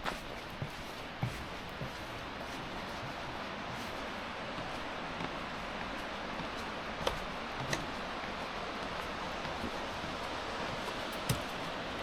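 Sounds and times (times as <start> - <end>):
continuous outdoor hiss: 0.0 - 12.0.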